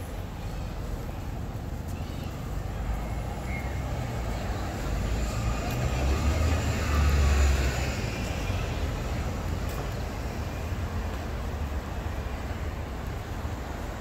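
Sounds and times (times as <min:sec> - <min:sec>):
bus engine rumbling: 0:00.0 - 0:14.0
street traffic noise: 0:00.0 - 0:14.0.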